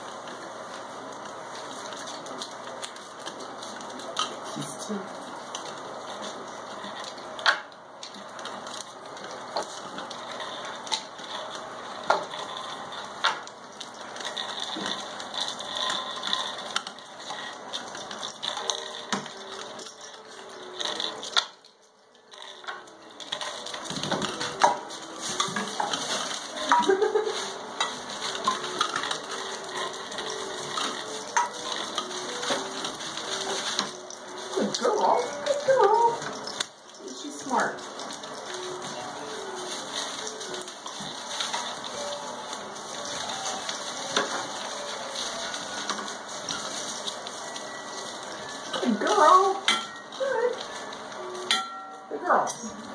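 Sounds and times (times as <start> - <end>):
plastic chains and toys clattering: 0.0 - 52.9.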